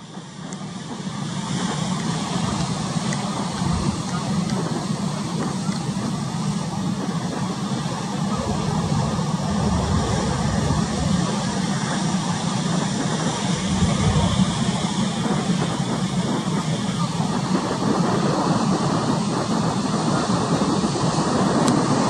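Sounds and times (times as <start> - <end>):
boat engine rumble: 0.0 - 22.0
choppy sea wash: 0.0 - 22.0.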